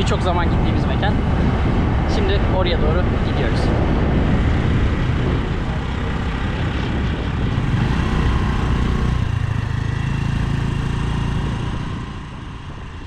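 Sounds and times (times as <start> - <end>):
rushing wind noise: 0.0 - 13.0
scooter engine running: 0.0 - 13.0.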